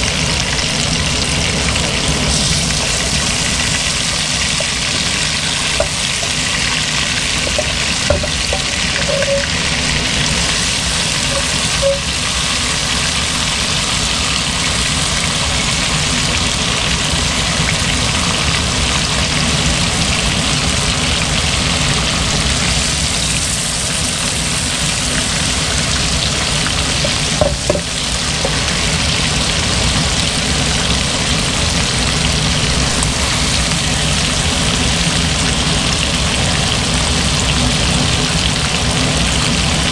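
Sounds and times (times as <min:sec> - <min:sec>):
chicken wings sizzling in oil: 0:00.0 - 0:39.9.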